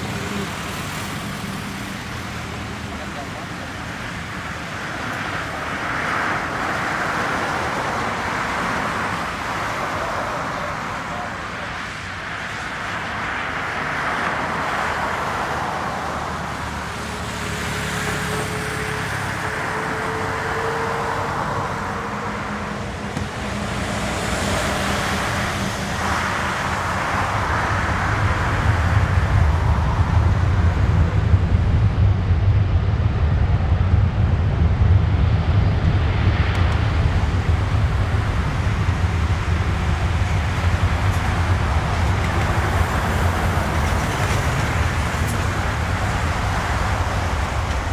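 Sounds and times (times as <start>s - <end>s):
jet engines rushing and rumbling: 0.0s - 47.9s.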